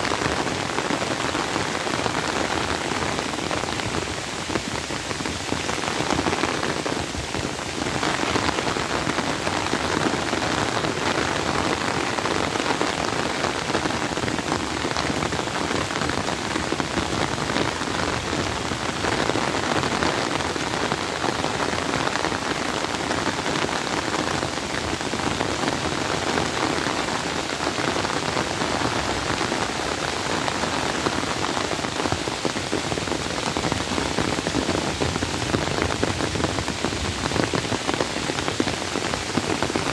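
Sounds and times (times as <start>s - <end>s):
heavy rain on leaves and water: 0.0s - 39.9s.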